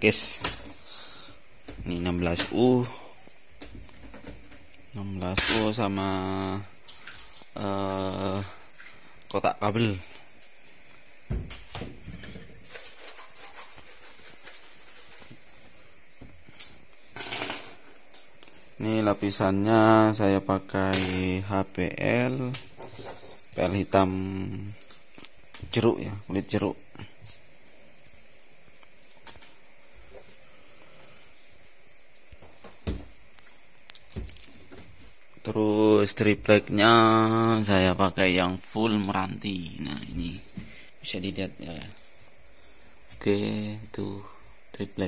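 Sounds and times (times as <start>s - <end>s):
steady hiss: 0.0s - 45.0s.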